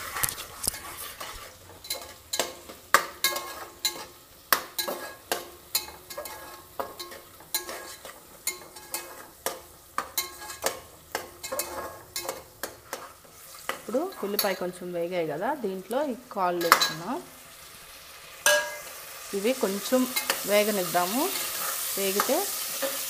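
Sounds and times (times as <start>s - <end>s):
metal spatula scraping pot: 0.0s - 14.9s, 18.4s - 23.0s
onions sizzling in oil: 0.0s - 23.0s.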